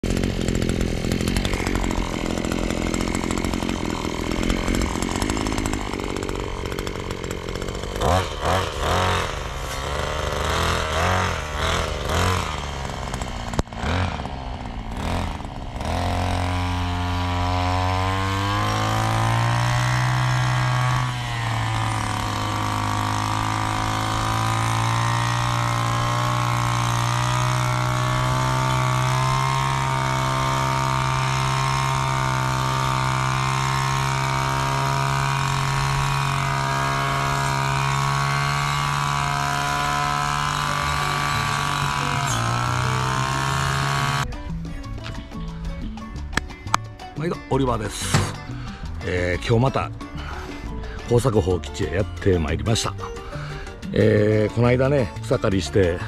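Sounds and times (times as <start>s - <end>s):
brush cutter engine revving: 0.0s - 44.4s, 46.2s - 56.0s.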